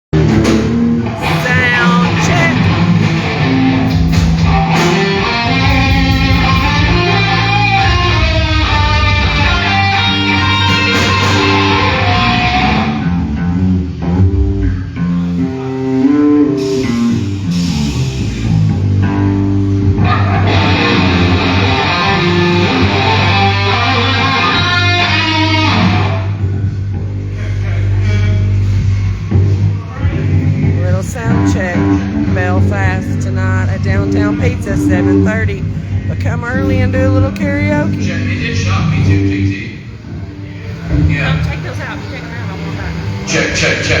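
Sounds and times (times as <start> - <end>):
electric guitar playing: 0.2 - 27.4, 30.2 - 44.0
bass guitar playing: 0.2 - 44.0.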